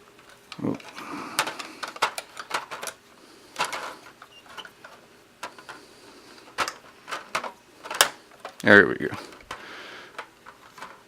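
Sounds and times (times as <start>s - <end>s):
plastic handling clicks: 0.1s - 3.0s, 3.6s - 5.8s, 6.5s - 11.0s.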